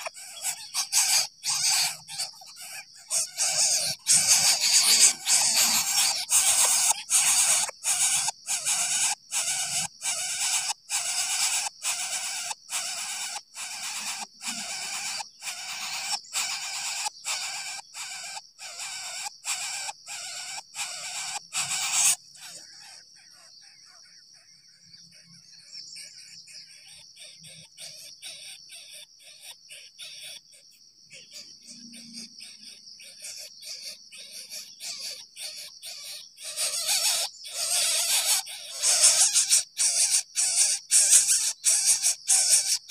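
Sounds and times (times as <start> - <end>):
nestlings raspy hissing calls: 0.0 - 24.0, 25.1 - 42.9.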